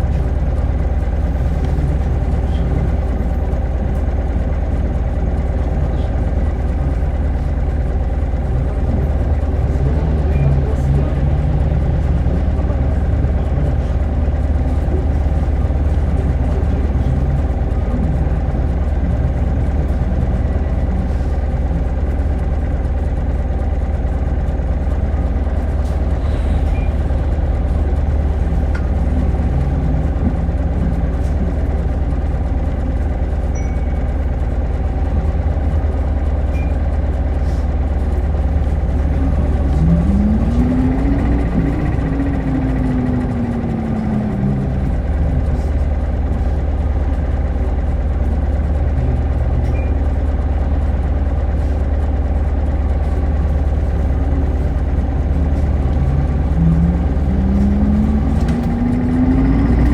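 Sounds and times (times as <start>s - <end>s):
bus engine idling: 0.0s - 59.9s
bus engine rising whine: 0.0s - 59.9s.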